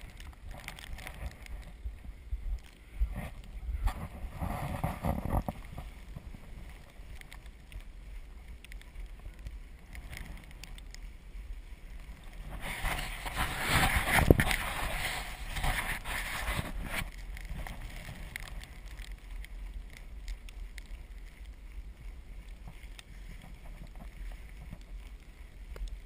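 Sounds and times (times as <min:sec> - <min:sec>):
tyres rolling through snow and slush: 0:00.0 - 0:26.0
wind on microphone: 0:00.0 - 0:26.0.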